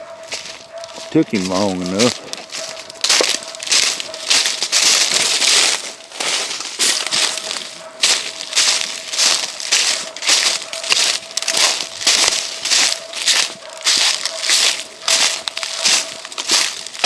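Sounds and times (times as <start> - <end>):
footsteps crunching dry leaves: 0.0 - 17.0.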